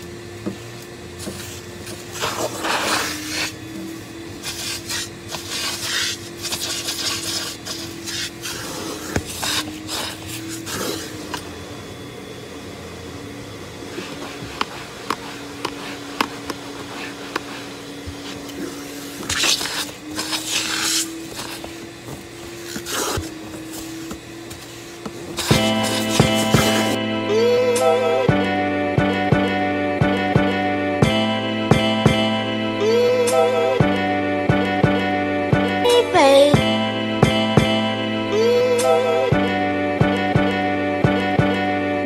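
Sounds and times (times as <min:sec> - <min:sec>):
vacuum motor hum: 0:00.0 - 0:42.0.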